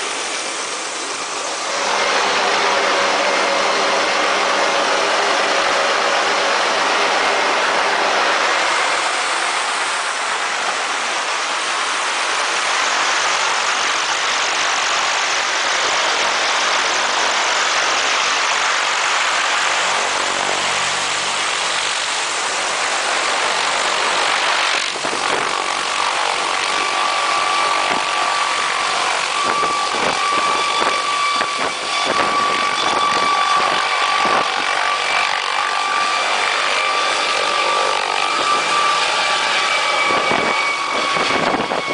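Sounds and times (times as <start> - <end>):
helicopter engine and rotor: 0.0 - 41.9
high whine: 0.0 - 41.9.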